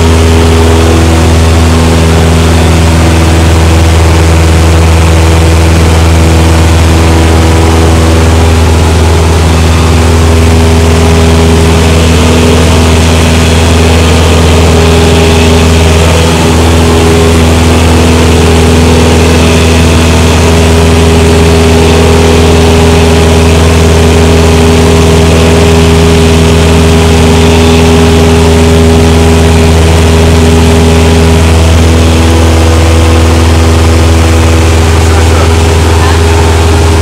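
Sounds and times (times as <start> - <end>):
aircraft engine and propeller: 0.0 - 37.0.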